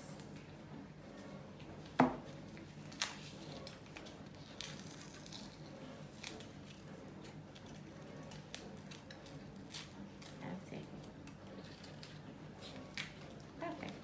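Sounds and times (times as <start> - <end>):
masking tape rustling: 2.5 - 14.0.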